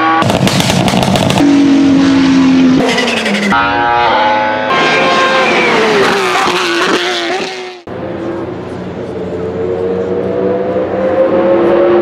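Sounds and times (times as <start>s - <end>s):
distant race car engine: 0.0s - 12.0s
race car engine passing: 1.4s - 12.0s.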